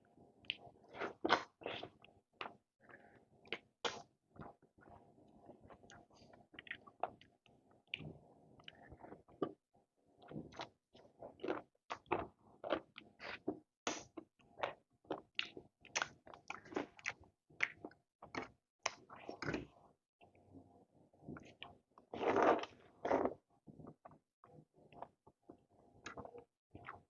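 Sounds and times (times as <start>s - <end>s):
wet chewing and eating: 0.4s - 9.6s, 10.2s - 19.8s, 21.3s - 27.0s.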